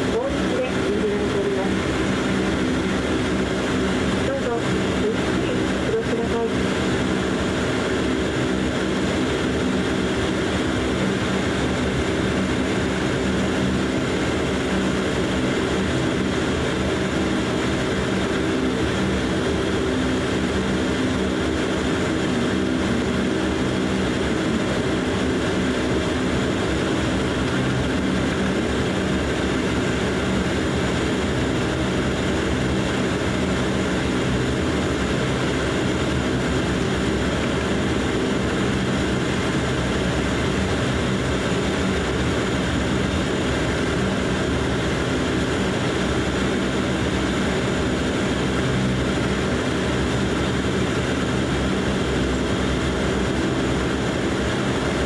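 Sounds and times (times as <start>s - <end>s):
faint high whine: 0.0s - 55.0s
turboprop engine drone: 0.0s - 55.0s.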